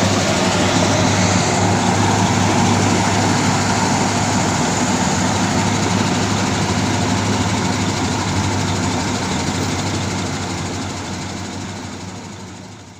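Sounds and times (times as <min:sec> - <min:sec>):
heavy diesel engines under load: 0:00.0 - 0:12.9.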